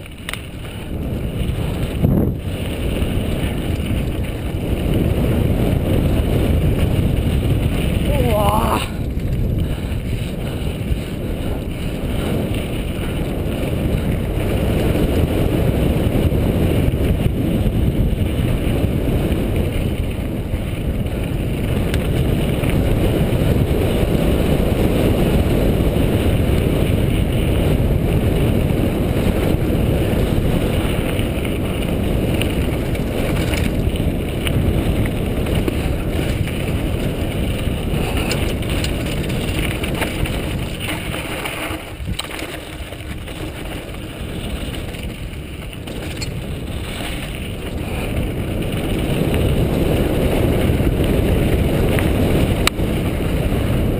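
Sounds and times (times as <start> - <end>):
bike tyres rattling over trail: 0.0 - 53.9
wind buffeting microphone: 0.0 - 53.9.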